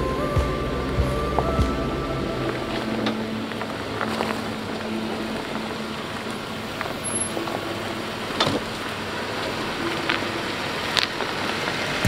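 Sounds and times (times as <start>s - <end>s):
vehicle engine and tyres rumbling: 0.0s - 12.0s.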